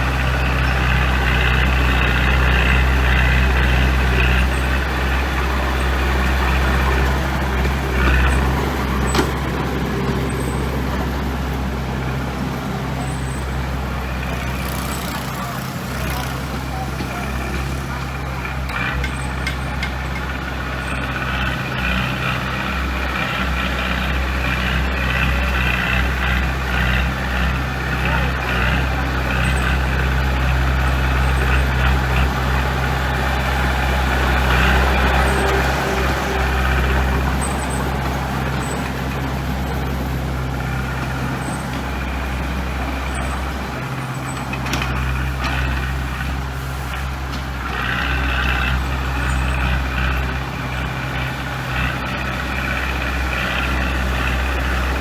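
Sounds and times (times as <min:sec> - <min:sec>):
deep engine drone: 0:00.0 - 0:55.0.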